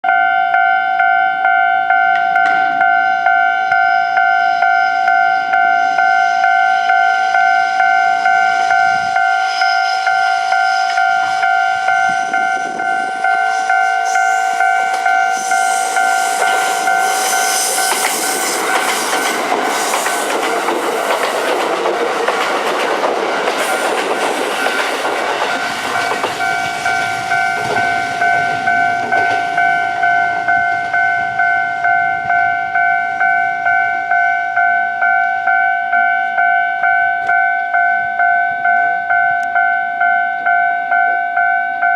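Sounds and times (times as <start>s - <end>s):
level-crossing warning bell: 0.0s - 41.9s
train passing over crossing: 0.0s - 41.9s.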